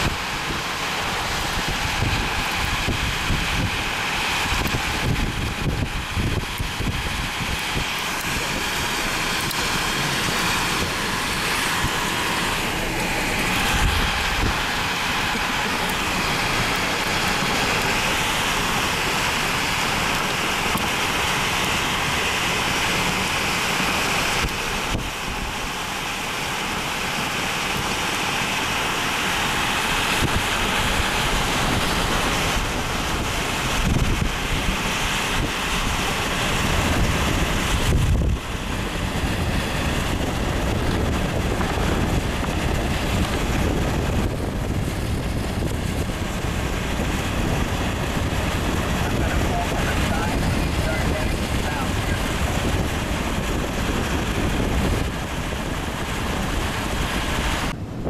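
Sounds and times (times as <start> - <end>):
strong wind on microphone: 0.0 - 58.0
wind gusts thumping microphone: 0.0 - 58.0.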